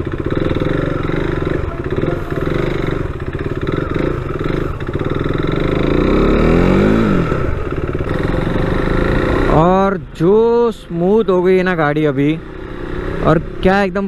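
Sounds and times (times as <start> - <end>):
motorcycle engine pulling away: 0.0 - 10.4, 11.0 - 14.0.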